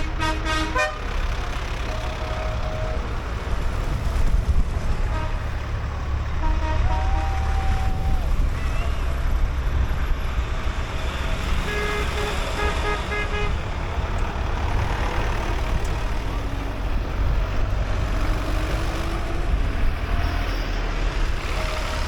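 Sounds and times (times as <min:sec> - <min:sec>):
deep engine rumble of trucks: 0:00.0 - 0:22.0.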